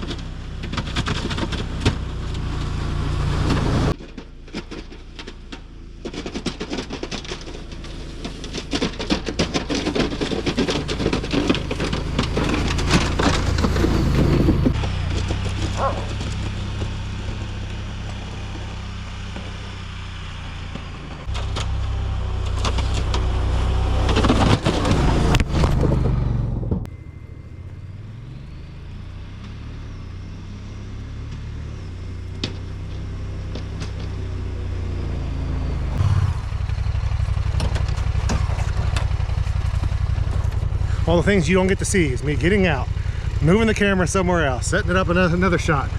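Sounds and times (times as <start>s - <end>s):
snowplow engine clattering: 0.0s - 45.9s.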